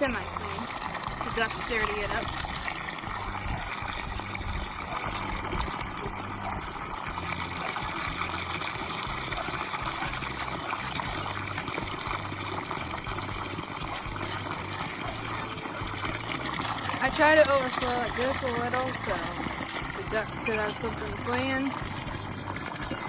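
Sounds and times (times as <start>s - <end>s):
water pouring into trough: 0.0s - 23.0s.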